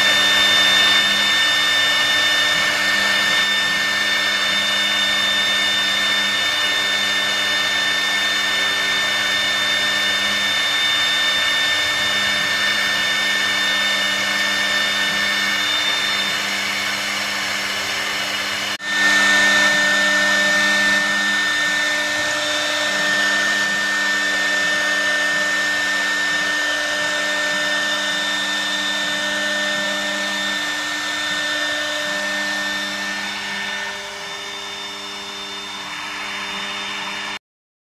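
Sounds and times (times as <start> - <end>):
router spindle whine: 0.0 - 37.4.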